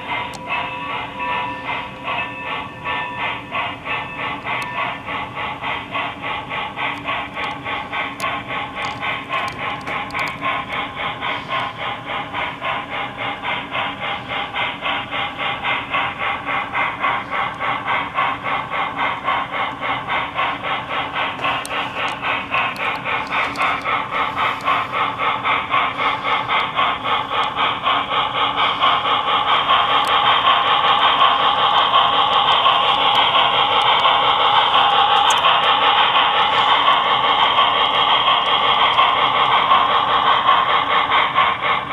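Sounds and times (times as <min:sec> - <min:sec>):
model steam locomotive chuffing: 0:00.0 - 0:41.9.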